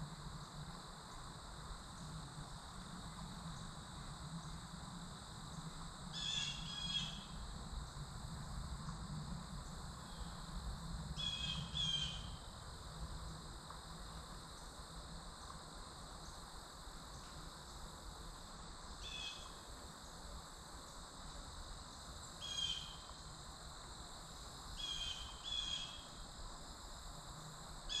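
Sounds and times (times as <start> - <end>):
high insect drone: 0.0 - 28.0.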